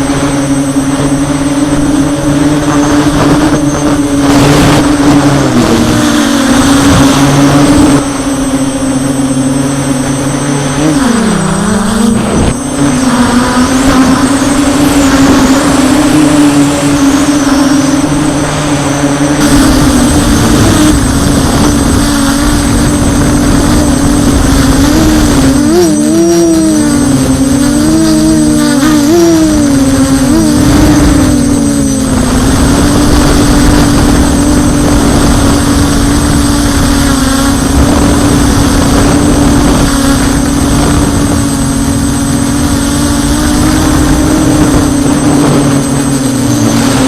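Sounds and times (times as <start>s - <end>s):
drone propellers buzzing: 0.0s - 47.0s.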